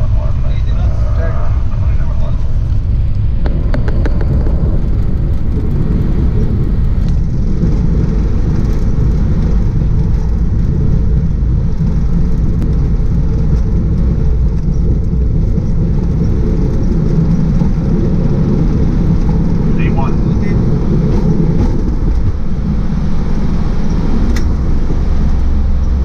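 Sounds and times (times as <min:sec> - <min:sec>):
jet airliner engines rumbling: 0:00.0 - 0:26.0.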